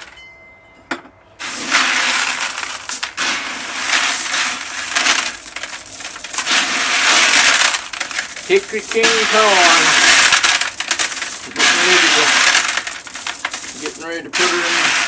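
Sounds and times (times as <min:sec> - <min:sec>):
dry corn kernels rattling: 0:01.4 - 0:15.0.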